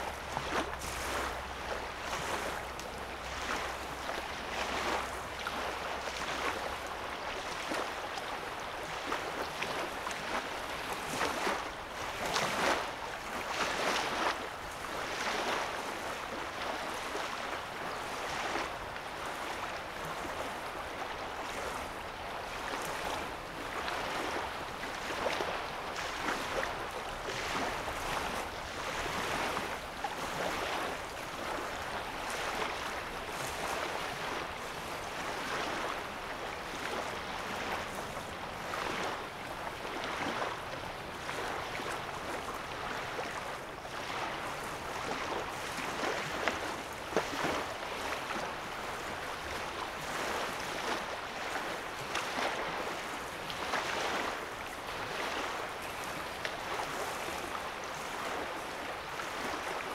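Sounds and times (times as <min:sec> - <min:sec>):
small water splashes: 0:00.0 - 0:59.9
small waves lapping on sand: 0:00.0 - 0:59.9.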